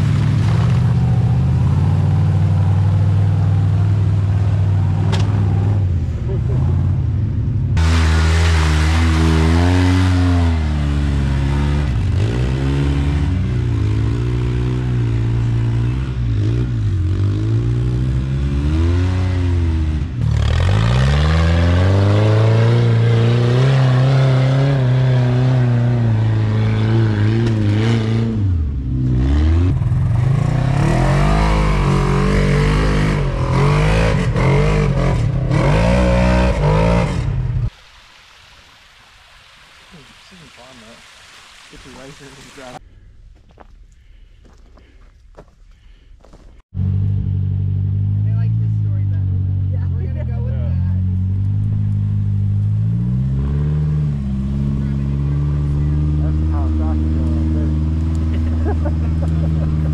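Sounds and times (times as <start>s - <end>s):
utility vehicle engine revving: 0.0s - 37.7s, 46.7s - 59.9s.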